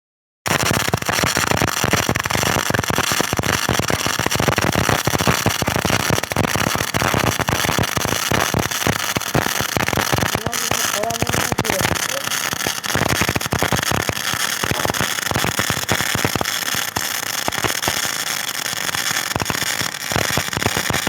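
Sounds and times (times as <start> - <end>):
welding arc crackling: 0.5 - 21.0.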